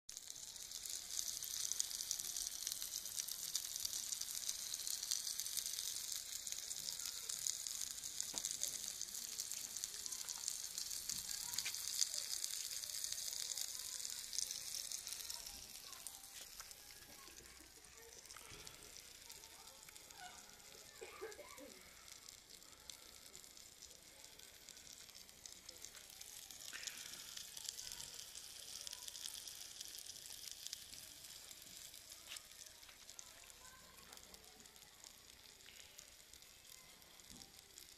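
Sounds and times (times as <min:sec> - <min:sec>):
fish sizzling in hot oil: 0:00.1 - 0:37.9.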